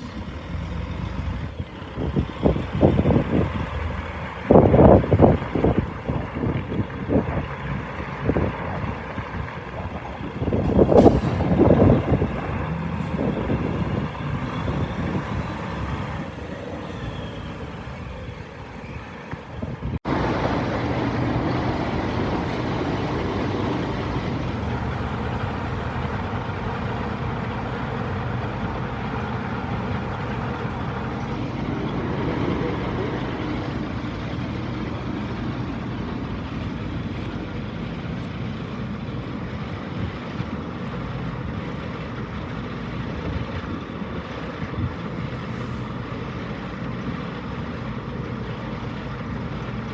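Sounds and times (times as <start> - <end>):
diesel truck engine droning: 0.0 - 49.9.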